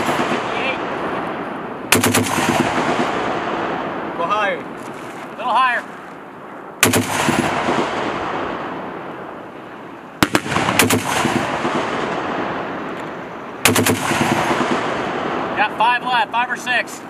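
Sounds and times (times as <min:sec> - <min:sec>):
long rolling echo: 0:00.0 - 0:17.0.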